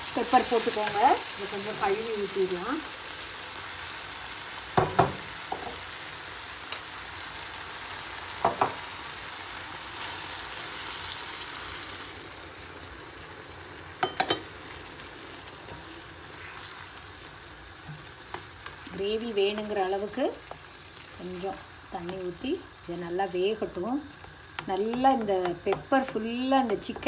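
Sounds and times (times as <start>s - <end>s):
food sizzling in a frying pan: 0.0s - 27.0s.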